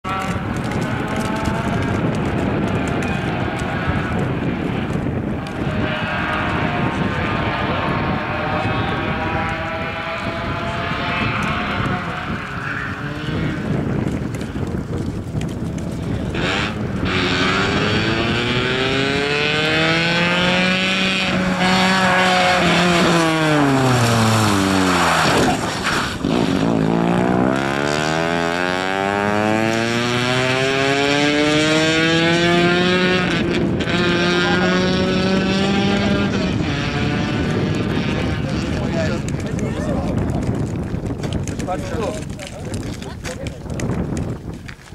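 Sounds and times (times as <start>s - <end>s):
rally car engine revving: 0.0s - 14.6s, 15.6s - 41.9s.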